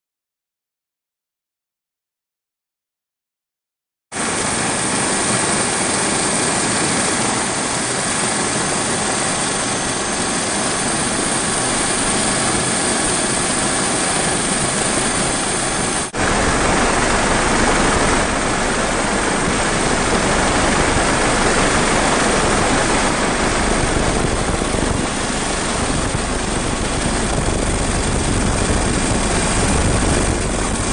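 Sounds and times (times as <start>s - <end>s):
aircraft engine noise: 4.1s - 30.9s.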